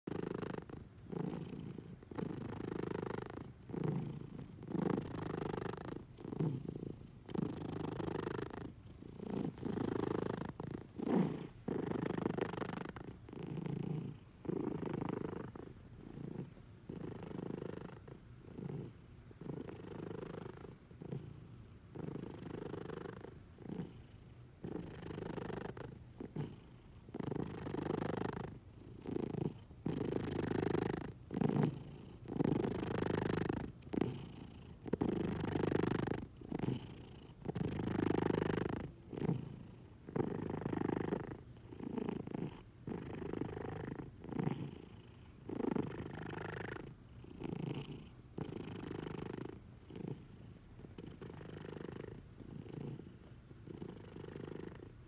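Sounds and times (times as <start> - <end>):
cat purring loudly: 0.0 - 55.0.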